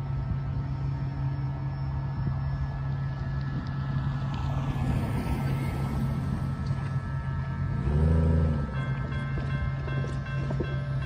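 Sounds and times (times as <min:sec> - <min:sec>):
cars driving past: 0:00.0 - 0:11.0
low engine hum: 0:00.0 - 0:11.0.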